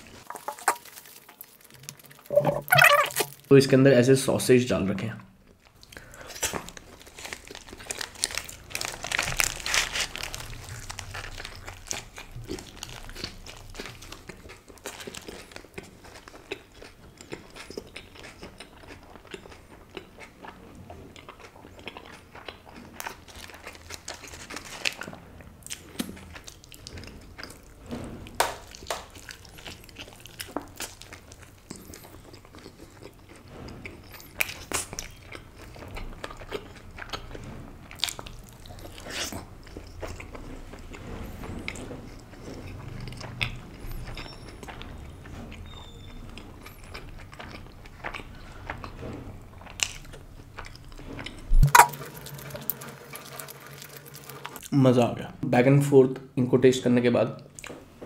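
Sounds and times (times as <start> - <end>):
person chewing food: 0.0 - 3.5, 5.4 - 41.4, 42.1 - 54.8.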